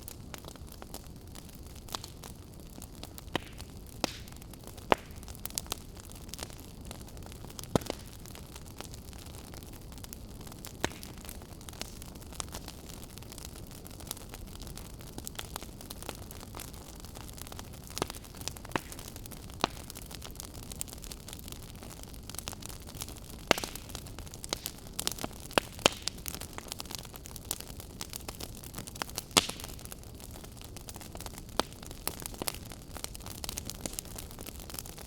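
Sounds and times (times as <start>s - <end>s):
burning wood crackling and popping: 0.0s - 35.0s.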